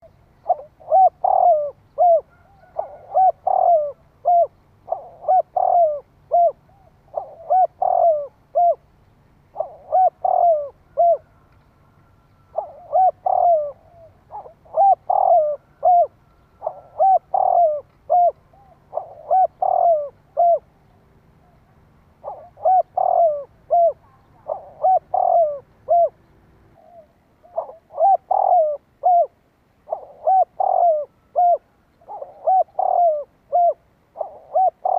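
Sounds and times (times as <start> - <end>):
dove cooing: 0.0 - 26.2, 26.8 - 34.9.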